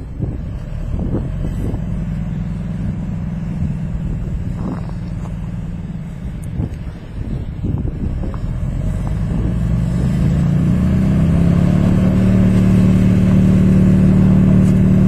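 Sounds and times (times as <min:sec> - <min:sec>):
wind buffeting microphone: 0:00.0 - 0:13.7
heavy engine running: 0:00.0 - 0:15.0.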